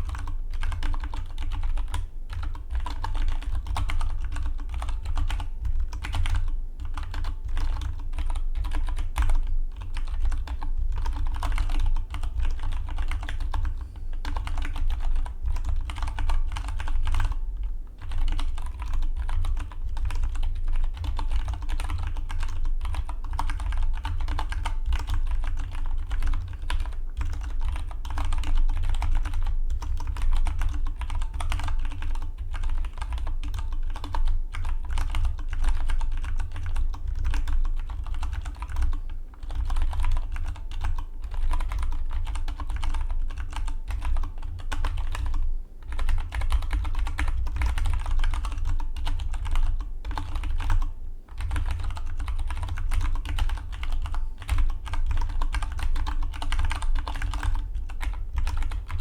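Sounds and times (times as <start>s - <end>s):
fast mechanical keyboard typing: 0.0s - 17.4s, 18.0s - 59.0s.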